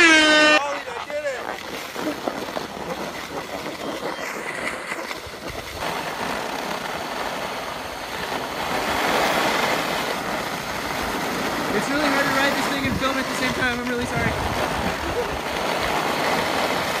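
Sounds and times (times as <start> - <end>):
board sliding over snow: 0.0 - 17.0
wind on microphone: 0.0 - 17.0.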